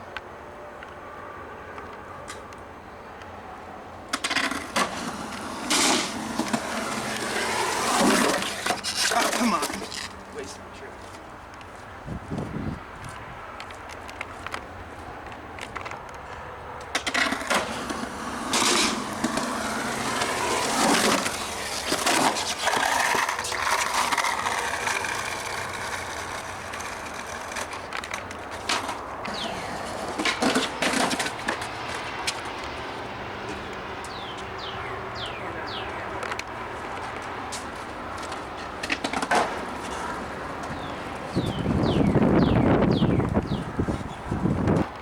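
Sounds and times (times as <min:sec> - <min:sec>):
skateboard wheels rolling: 0:01.7 - 0:45.0.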